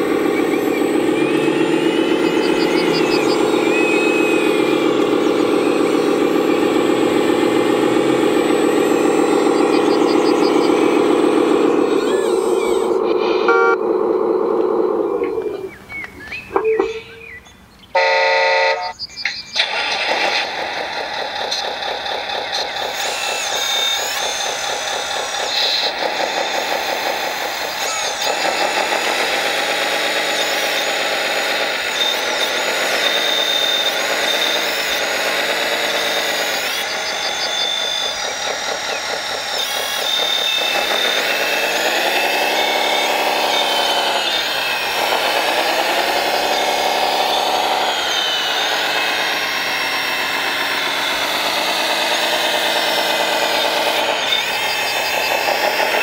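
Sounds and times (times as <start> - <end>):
model motors whining: 0.0 - 17.0, 18.0 - 56.0.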